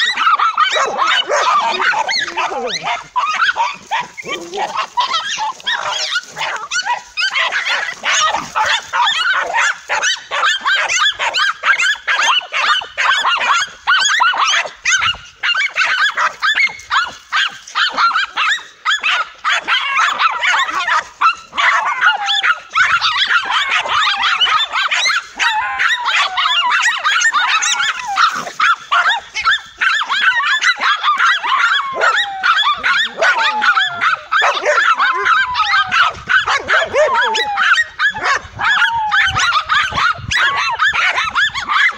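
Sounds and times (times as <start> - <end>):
dogs barking: 0.0 - 41.9
dogs yelping: 0.0 - 41.9.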